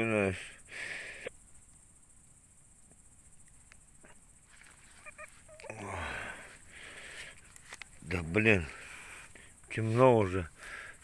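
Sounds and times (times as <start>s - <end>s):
campfire crackling: 0.6s - 11.0s.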